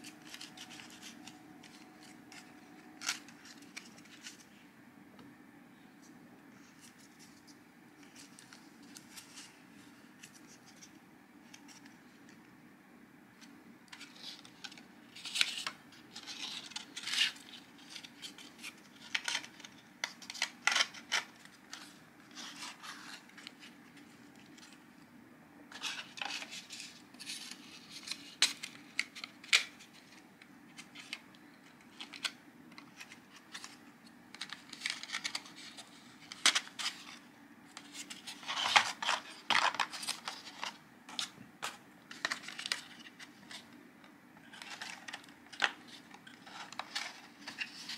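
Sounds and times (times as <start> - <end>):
paper and card rustling: 0.0 - 4.6, 6.6 - 12.4, 13.4 - 24.8, 25.7 - 43.8, 44.4 - 47.9
faint low hum: 0.0 - 47.9.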